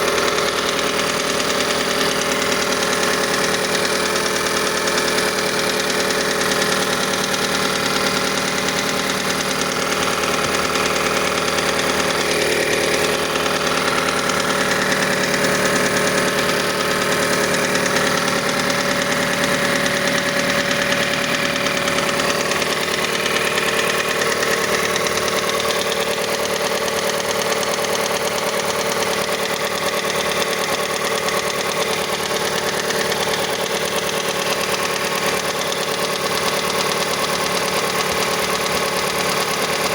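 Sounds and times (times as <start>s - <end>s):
car engine idling: 0.0s - 39.9s
rapid engine knock: 0.0s - 39.9s.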